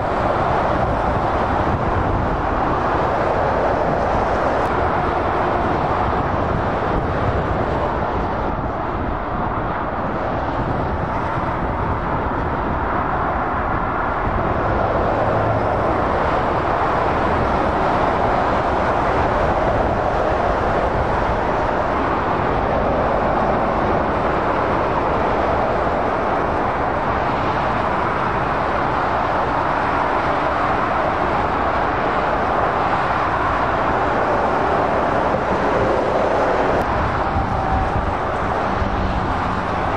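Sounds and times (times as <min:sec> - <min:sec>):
heavy motorway traffic: 0:00.0 - 0:39.9.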